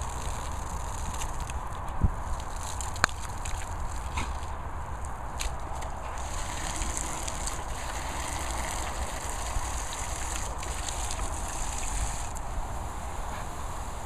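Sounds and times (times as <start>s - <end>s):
hose water splattering: 0.0s - 4.5s, 5.4s - 14.0s.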